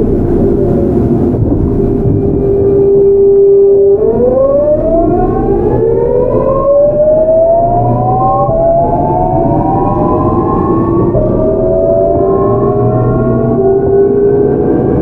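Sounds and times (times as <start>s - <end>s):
train inverter whine: 0.0s - 15.0s
train running rumble: 0.0s - 15.0s.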